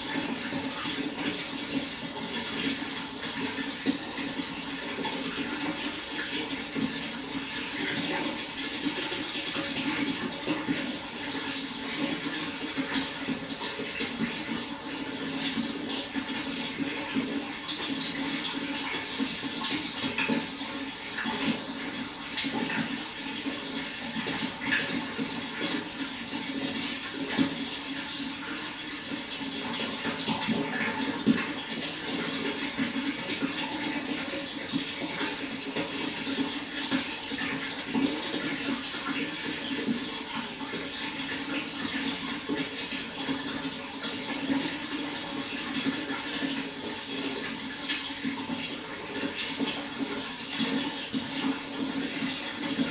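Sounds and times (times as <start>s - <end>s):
water flowing: 0.0s - 52.9s.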